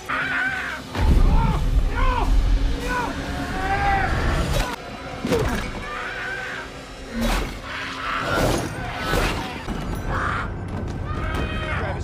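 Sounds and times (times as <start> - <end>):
people crying and screaming: 0.0 - 12.0
tense horror music: 0.0 - 12.0.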